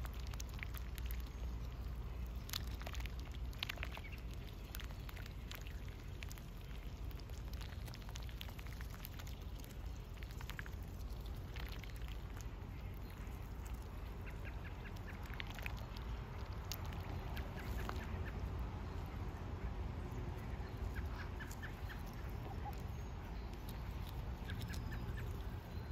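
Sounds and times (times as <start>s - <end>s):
duck dabbling bill in puddle: 0.0s - 19.2s, 20.4s - 22.9s, 23.5s - 25.8s
steady low rumble: 0.0s - 25.9s.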